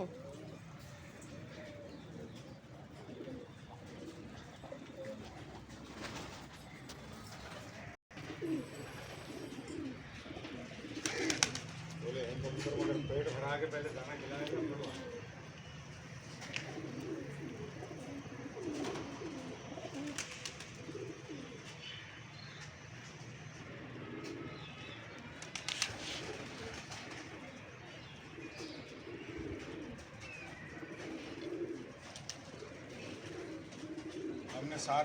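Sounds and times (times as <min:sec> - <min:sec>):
pigeons cooing: 0:00.0 - 0:35.0.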